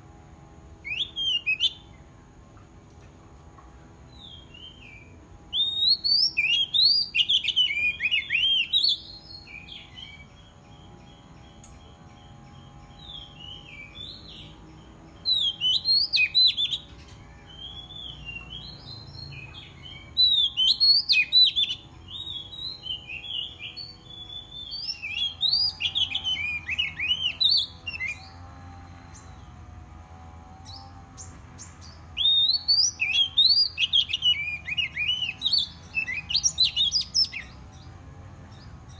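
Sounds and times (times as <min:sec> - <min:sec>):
bird song with whistled notes: 0:00.8 - 0:02.2, 0:04.0 - 0:29.7, 0:30.6 - 0:38.9.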